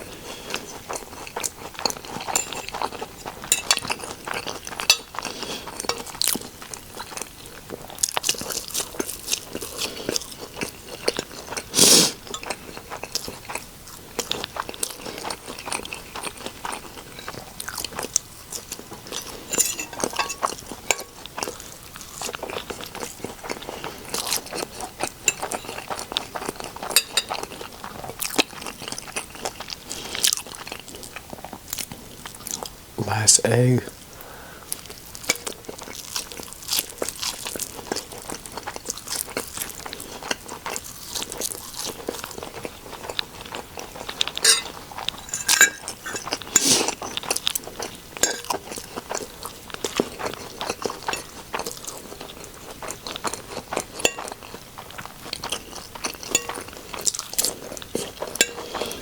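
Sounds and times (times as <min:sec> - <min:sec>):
chewing and crunching: 0:00.0 - 0:32.9, 0:33.9 - 0:59.0.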